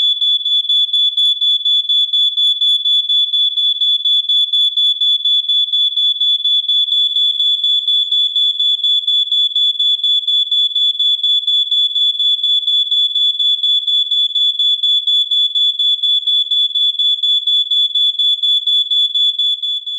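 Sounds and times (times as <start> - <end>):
smoke detector alarm: 0.0 - 19.9.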